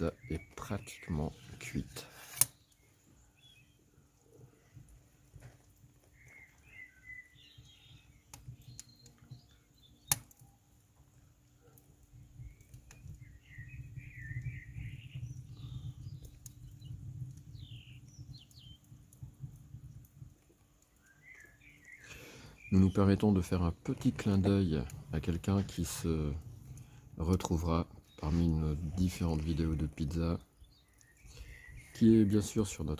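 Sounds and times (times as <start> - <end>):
small birds chirping: 0.0 - 32.9
wood fire crackling: 0.0 - 32.9.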